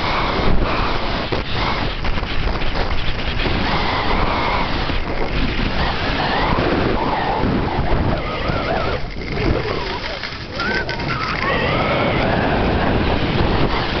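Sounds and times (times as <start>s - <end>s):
skis scraping over snow: 0.0s - 14.0s
wind buffeting microphone: 0.0s - 14.0s.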